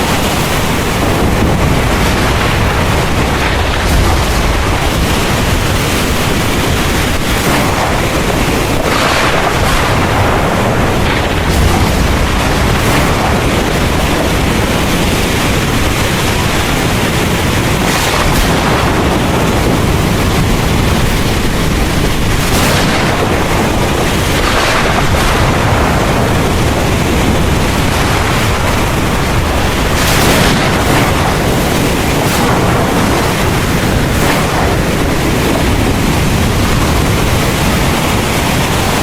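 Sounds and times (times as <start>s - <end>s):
heavy rain pouring: 0.0s - 39.0s
low rumble of thunder: 0.0s - 39.0s.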